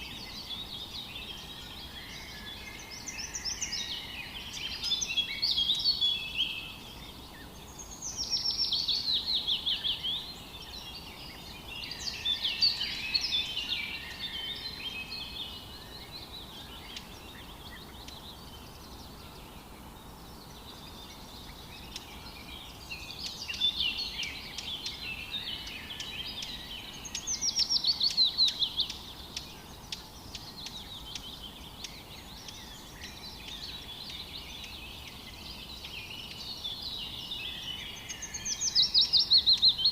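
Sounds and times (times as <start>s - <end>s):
background hiss: 0.0s - 39.9s
bird singing: 0.0s - 39.9s.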